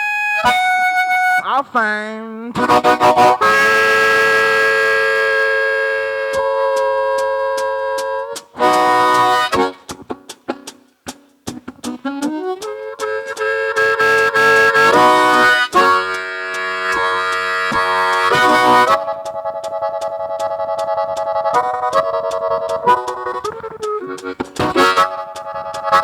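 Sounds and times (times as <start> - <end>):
steady ticking beat: 0.0 - 5.6, 6.2 - 26.0
solo blues harmonica: 0.0 - 26.0.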